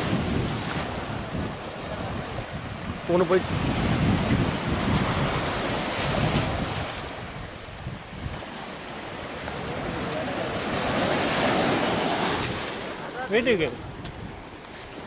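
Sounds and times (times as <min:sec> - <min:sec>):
sea surf breaking on beach: 0:00.0 - 0:15.0
wind buffeting microphone: 0:00.0 - 0:15.0.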